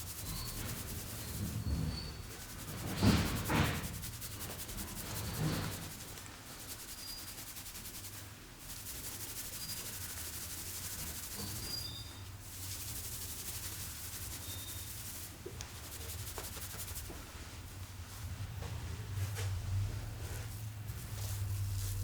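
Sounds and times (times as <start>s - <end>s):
hands rubbing hair: 0.0s - 22.0s.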